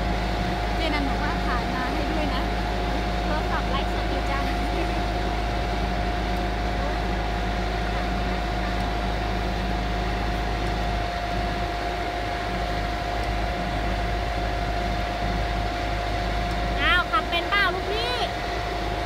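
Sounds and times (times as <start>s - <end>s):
excavator diesel engine running: 0.0s - 19.0s
hydraulic whine: 0.0s - 19.0s.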